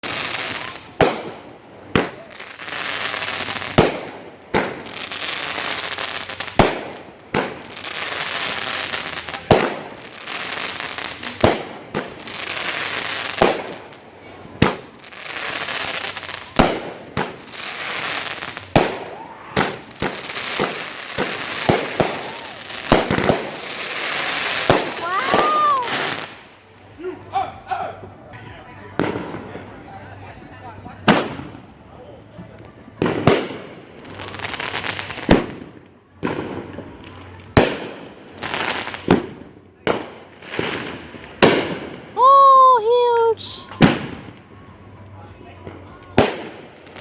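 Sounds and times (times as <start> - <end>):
fireworks banging: 0.0 - 26.5, 28.9 - 29.8, 30.8 - 31.7, 32.6 - 45.0, 45.6 - 47.0
fireworks popping: 0.0 - 26.5, 31.0 - 31.6, 32.5 - 44.6, 45.6 - 47.0
fireworks crackling hiss: 0.0 - 26.7, 32.9 - 47.0.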